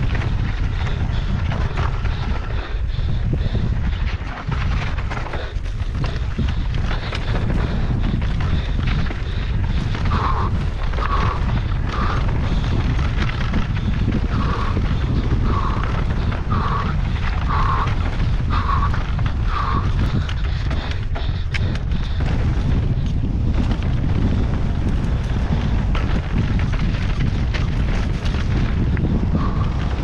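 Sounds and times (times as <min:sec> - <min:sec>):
bike rattling over ground: 0:00.0 - 0:30.0
wind buffeting microphone: 0:00.0 - 0:30.0.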